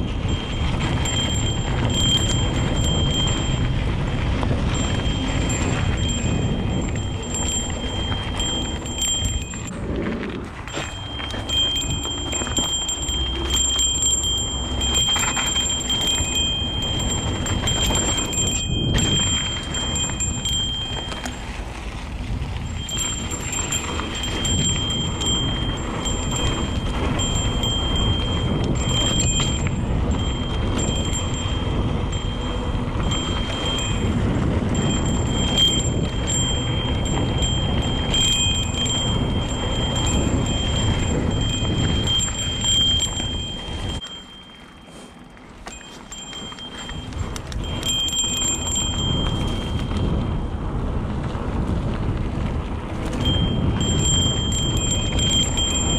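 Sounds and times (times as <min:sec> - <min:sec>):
high ringing tone: 0:00.0 - 0:50.6, 0:53.0 - 0:55.9
bike tyre rumbling on dirt: 0:00.0 - 0:55.9
wind noise: 0:00.0 - 0:55.9.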